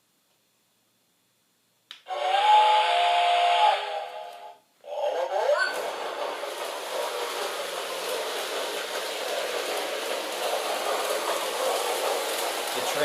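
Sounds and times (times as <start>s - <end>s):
toy train whirring rumble: 2.1s - 13.0s.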